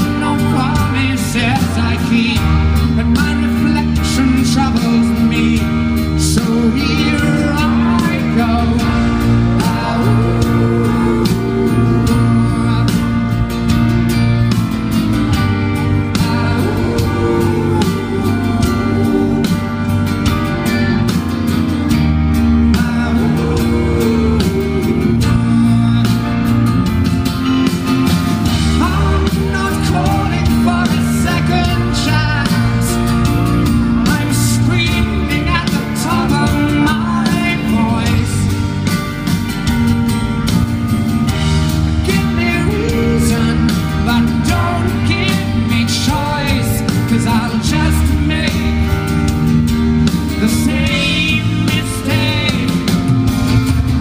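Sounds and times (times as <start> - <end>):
man singing: 0.0 - 13.9, 15.0 - 21.2, 21.8 - 27.6, 28.4 - 39.0, 41.2 - 53.4
acoustic guitar: 0.0 - 54.0
drums: 0.0 - 54.0
electric guitar: 0.0 - 54.0.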